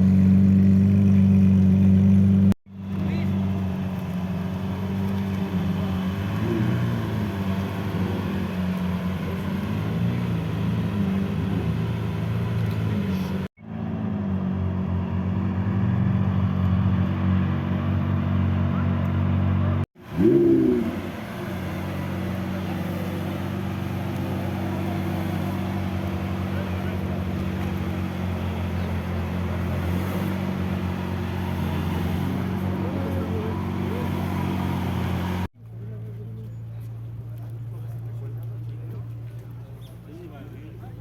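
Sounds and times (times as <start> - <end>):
engine revving: 0.0 - 35.5
car engines idling: 0.0 - 41.0.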